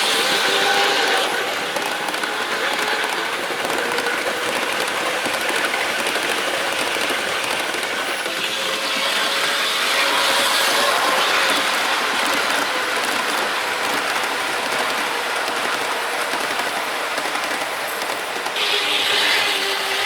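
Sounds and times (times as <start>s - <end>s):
model locomotive motor whine: 0.0s - 20.0s
model train wheels rattling on rails: 0.0s - 20.0s.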